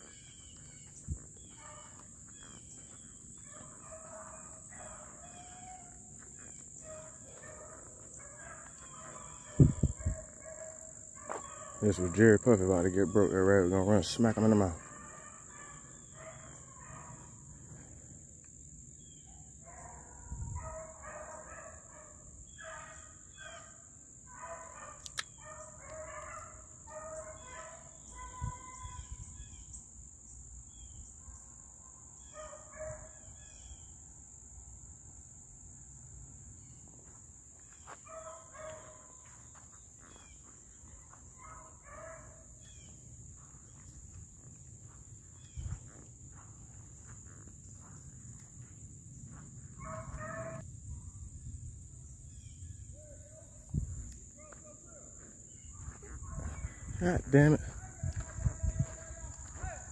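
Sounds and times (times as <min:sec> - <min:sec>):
beagles baying: 0:00.0 - 0:18.2, 0:19.2 - 0:29.2, 0:32.2 - 0:33.8, 0:37.0 - 0:50.6, 0:54.3 - 0:59.9.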